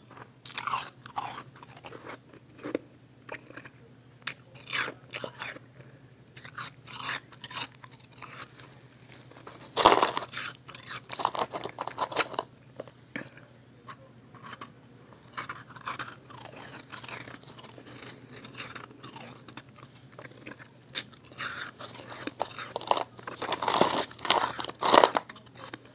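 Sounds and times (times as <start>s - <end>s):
person chewing crunchy ice: 0.1s - 5.6s, 6.4s - 12.5s, 14.4s - 25.9s.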